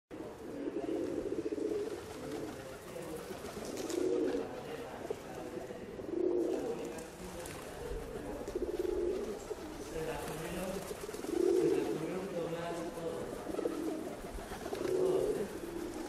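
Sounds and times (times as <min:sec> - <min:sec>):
doves cooing: 0:00.1 - 0:16.0.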